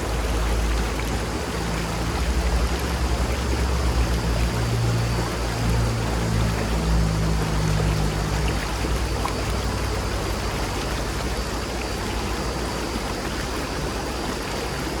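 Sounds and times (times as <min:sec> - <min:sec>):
shallow river flowing: 0:00.0 - 0:15.0.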